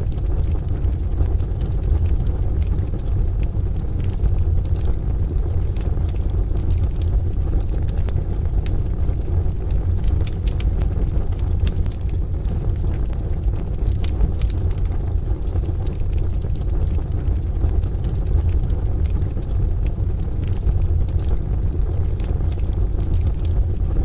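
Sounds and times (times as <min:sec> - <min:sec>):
rain rumble: 0:00.0 - 0:24.0
wood fire crackling in stove: 0:00.0 - 0:24.0.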